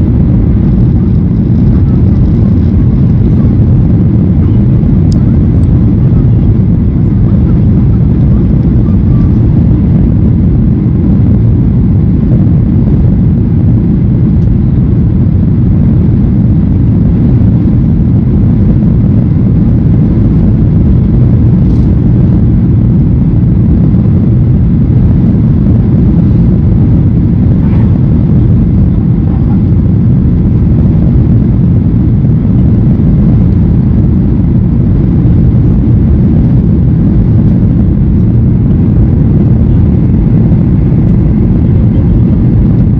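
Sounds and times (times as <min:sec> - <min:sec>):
airliner engines and airflow in cabin: 0:00.0 - 0:42.9.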